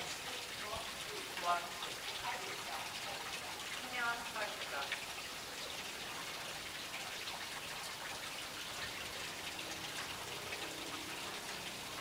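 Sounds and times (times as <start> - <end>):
fountain water splashing and trickling: 0.0 - 12.0.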